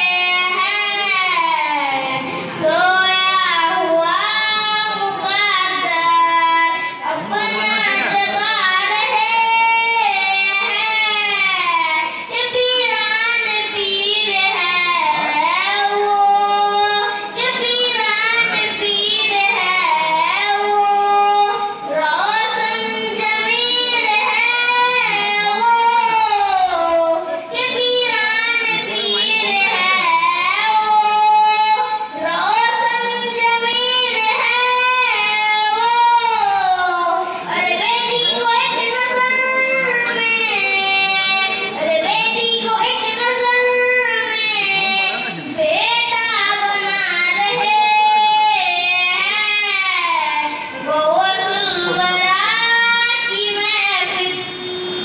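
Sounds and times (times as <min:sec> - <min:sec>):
boy singing into a microphone: 0:00.0 - 0:55.0.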